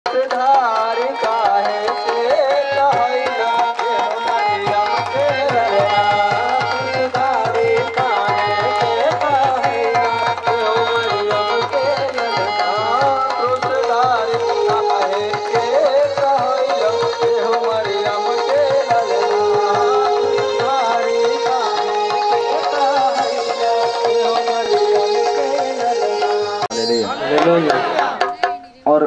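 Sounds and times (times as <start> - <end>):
person singing into a microphone: 0.1 - 29.0
hand drum beat: 2.2 - 28.9.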